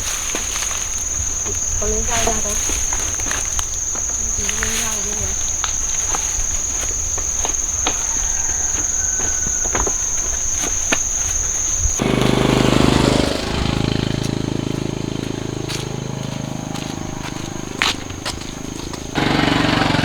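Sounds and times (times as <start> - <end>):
high-pitched insect drone: 0.0 - 20.0
small engine revving: 0.0 - 20.0.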